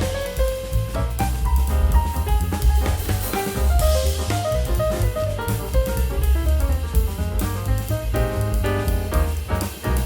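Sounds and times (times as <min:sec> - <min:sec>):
jazz instrumental music: 0:00.0 - 0:10.0.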